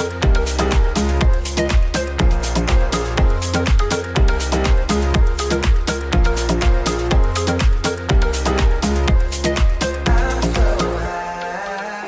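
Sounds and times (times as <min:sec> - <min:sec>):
electronic dance-pop music: 0:00.0 - 0:12.0.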